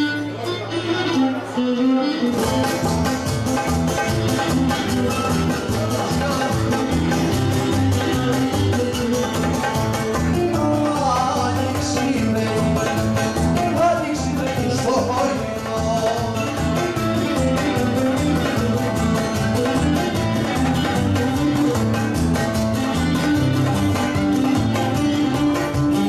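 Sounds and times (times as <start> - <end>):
bouzouki plucked: 0.0 - 26.0
goblet drum rhythm: 2.3 - 26.0.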